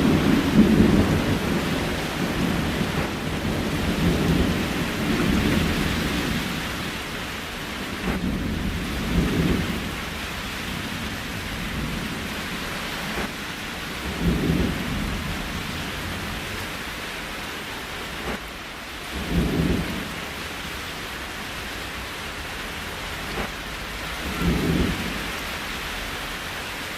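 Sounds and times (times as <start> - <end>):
steady rain hiss: 0.0 - 26.9.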